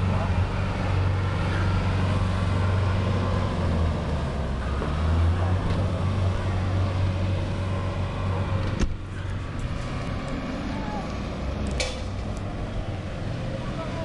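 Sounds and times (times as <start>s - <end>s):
armoured vehicle engines droning: 0.0s - 14.0s.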